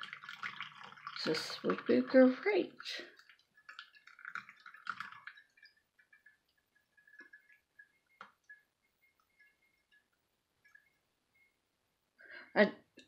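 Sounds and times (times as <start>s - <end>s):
water trickling onto coffee grounds: 0.0s - 11.6s
soft water drips: 0.0s - 13.0s.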